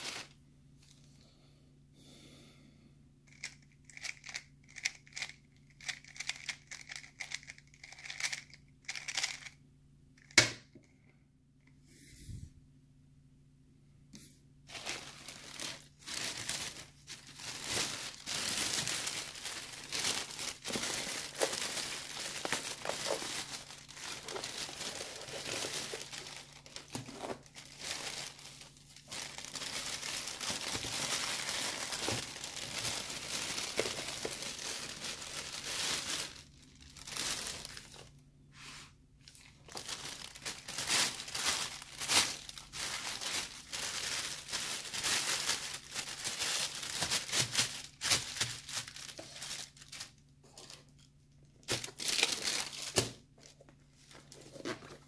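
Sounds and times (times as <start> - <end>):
plastic bag crinkling: 0.0 - 0.4, 3.3 - 9.6, 14.7 - 38.2, 39.2 - 55.0.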